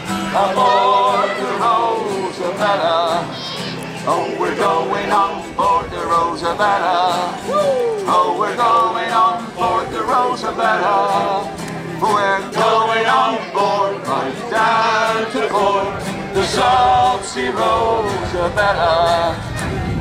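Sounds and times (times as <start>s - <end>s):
men singing sea shanty: 0.0s - 19.6s
acoustic guitar: 0.0s - 20.0s.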